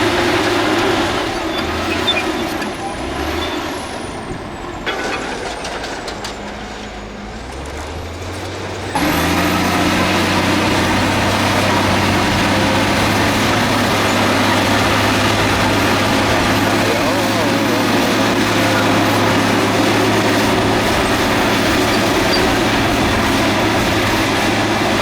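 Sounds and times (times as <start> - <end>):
heavy diesel engines running: 0.0 - 25.0.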